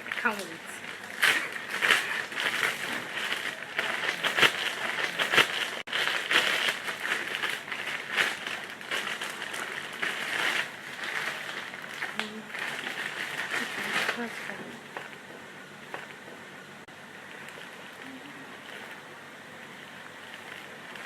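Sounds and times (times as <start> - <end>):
packaging rustling and tearing: 0.0 - 15.2, 17.2 - 19.0, 20.2 - 21.0.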